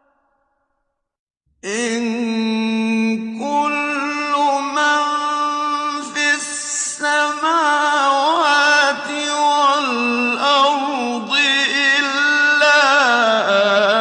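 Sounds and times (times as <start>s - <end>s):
man chanting recitation: 1.6s - 14.0s.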